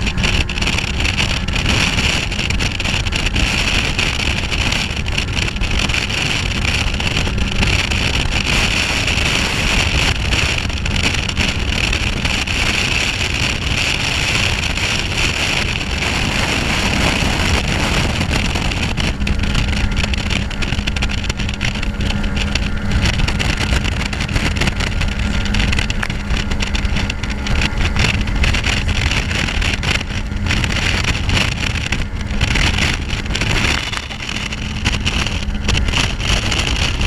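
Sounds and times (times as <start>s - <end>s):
outboard motor droning: 0.0s - 37.0s
wind on microphone: 0.0s - 37.0s.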